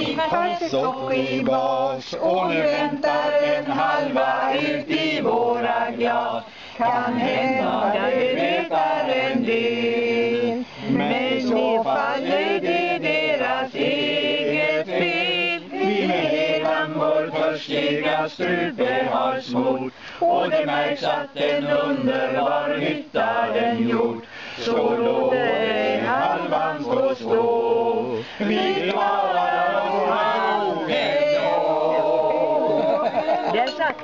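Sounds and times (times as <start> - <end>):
group singing unaccompanied: 0.0 - 34.0.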